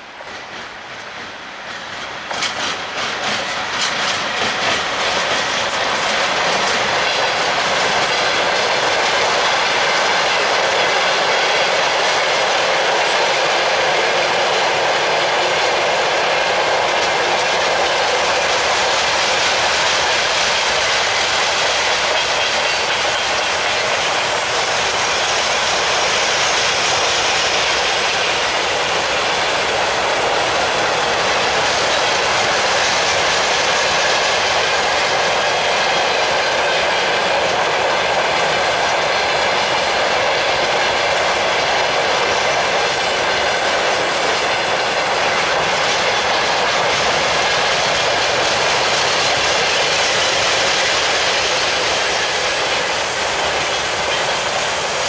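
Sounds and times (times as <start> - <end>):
steel wheels running on rails: 0.0 - 55.0.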